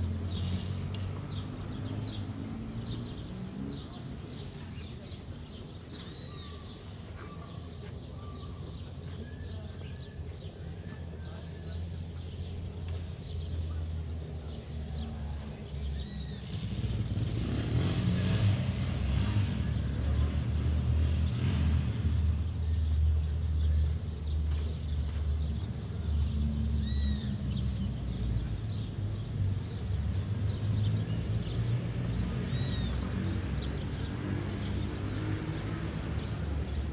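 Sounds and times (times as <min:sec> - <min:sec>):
birds chirping: 0:00.0 - 0:36.9
passing motor traffic: 0:00.0 - 0:36.9.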